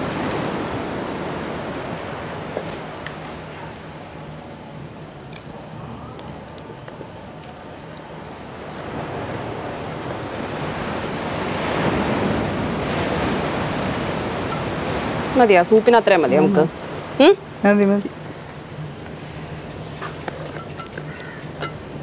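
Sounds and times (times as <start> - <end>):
soup boiling with rushing hiss: 0.0 - 16.1, 16.8 - 22.0.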